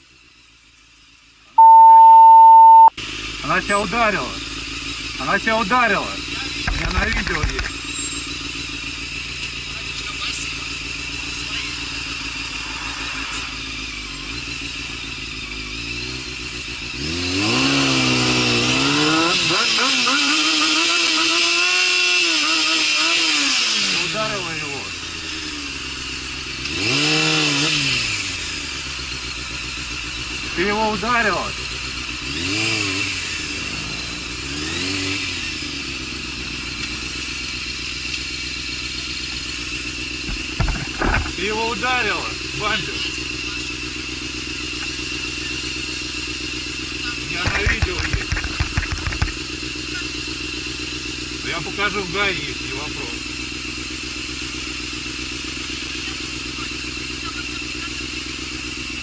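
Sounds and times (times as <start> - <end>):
motorcycle engine revving: 2.6 - 59.0.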